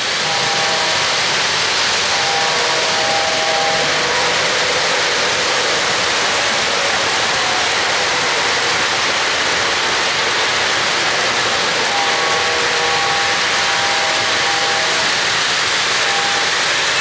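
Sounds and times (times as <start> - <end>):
model train wheels rushing on track: 0.0 - 17.0.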